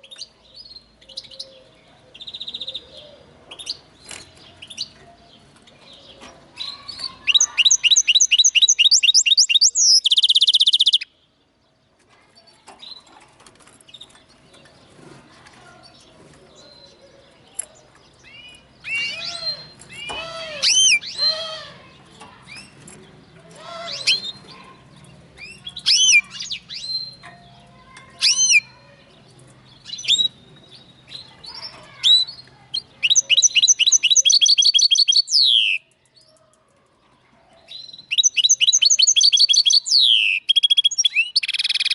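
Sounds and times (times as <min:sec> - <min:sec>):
songbird trilling and chirping: 0:00.0 - 0:11.8, 0:13.8 - 0:36.5, 0:37.6 - 0:41.9.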